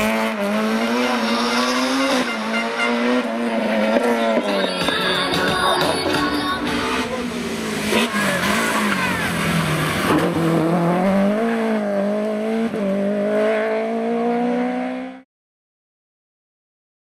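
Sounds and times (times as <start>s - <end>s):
rally car engine accelerating: 0.0s - 15.2s.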